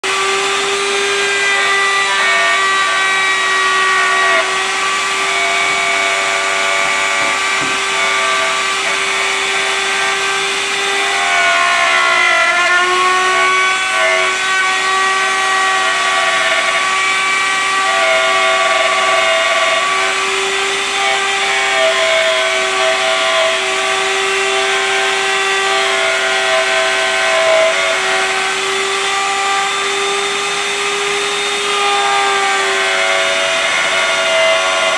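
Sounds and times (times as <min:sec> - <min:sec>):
router whining through wood: 0:00.0 - 0:34.9.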